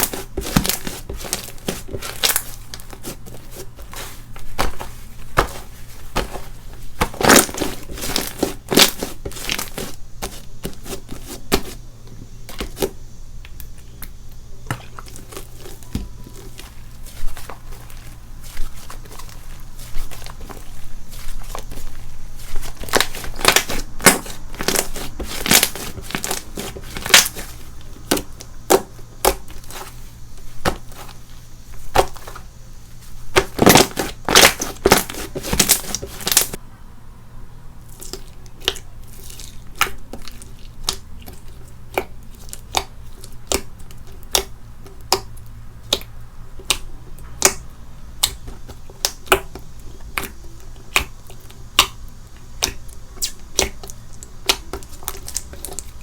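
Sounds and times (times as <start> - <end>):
slime crackling and popping: 0.0 - 11.8, 12.5 - 29.9, 33.3 - 36.6, 38.0 - 47.6, 48.2 - 56.0.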